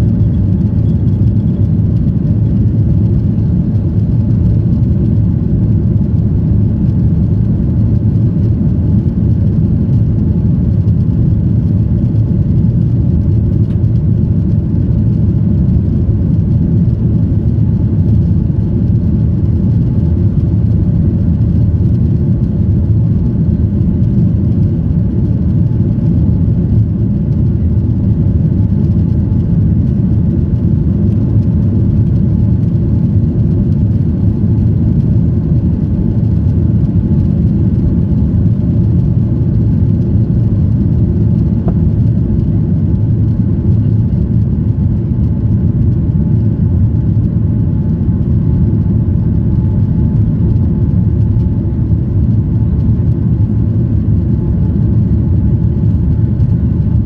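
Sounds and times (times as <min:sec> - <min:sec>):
jet engines low rumble: 0:00.0 - 0:57.0.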